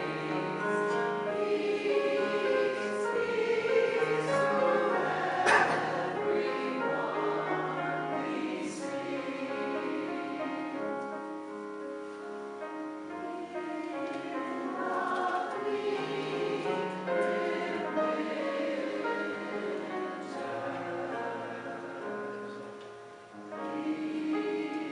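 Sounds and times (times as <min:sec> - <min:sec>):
chorus singing long chords: 0:00.0 - 0:24.9.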